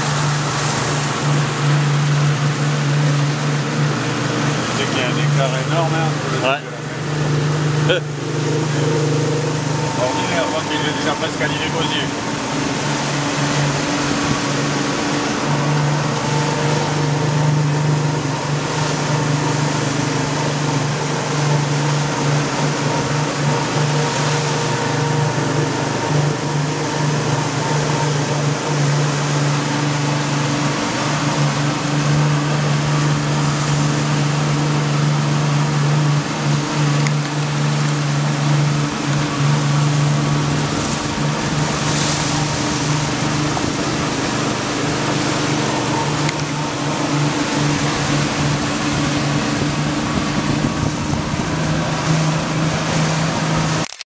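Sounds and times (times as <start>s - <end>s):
motorboat engine humming: 0.0s - 54.0s
wind and water hiss: 0.0s - 54.0s.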